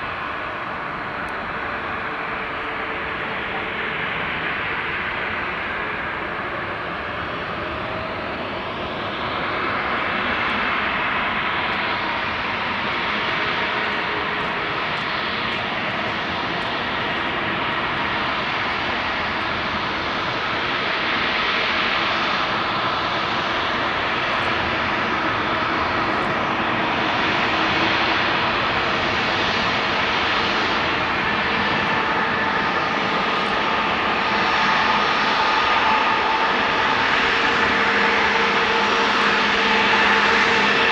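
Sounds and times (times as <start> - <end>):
faint engine whine: 0.0 - 40.9
jet engines running: 0.0 - 40.9.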